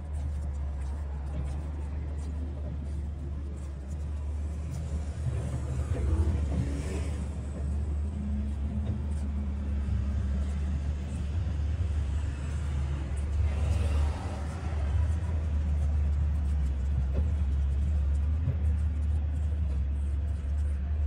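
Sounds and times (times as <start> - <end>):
broad noise: 0.0 - 21.0
steady low rumble: 0.0 - 21.0.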